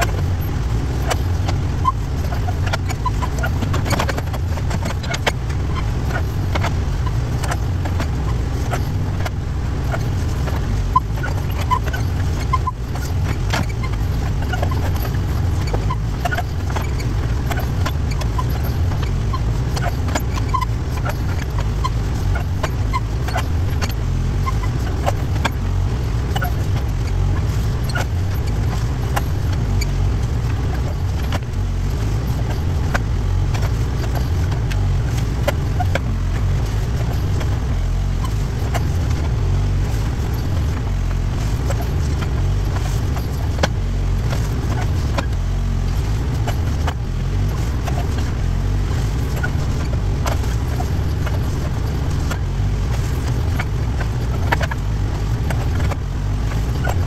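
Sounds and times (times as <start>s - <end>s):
backhoe engine running: 0.0s - 57.0s.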